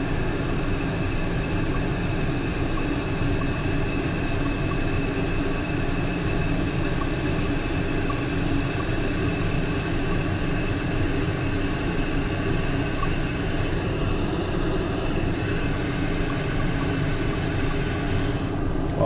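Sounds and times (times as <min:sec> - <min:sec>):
water hissing into toilet tank: 0:00.0 - 0:18.6.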